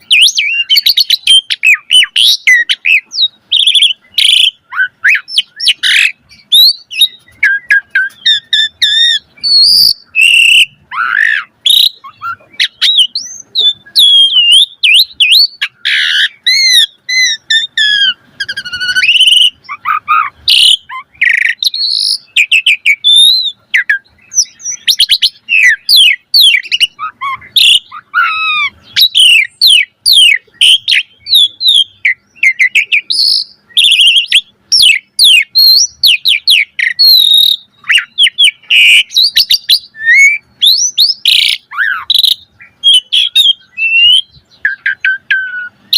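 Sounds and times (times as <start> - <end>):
starling singing varied song: 0.0 - 45.9.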